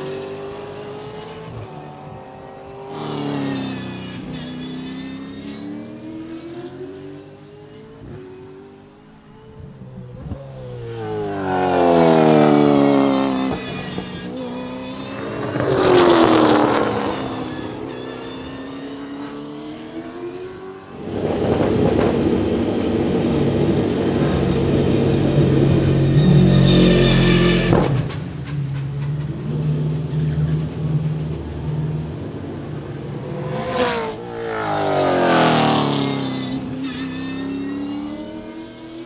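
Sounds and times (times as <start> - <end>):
race cars driving past: 0.0 - 39.0.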